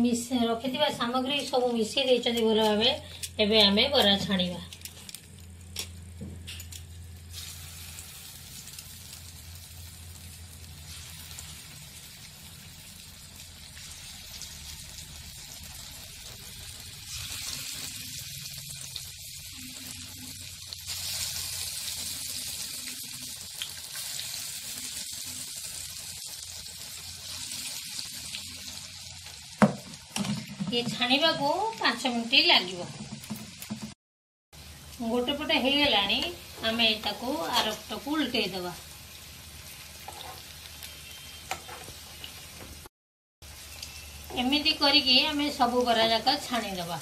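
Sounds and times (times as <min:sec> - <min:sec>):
fritters sizzling in hot oil: 0:00.0 - 0:34.0, 0:34.6 - 0:47.0.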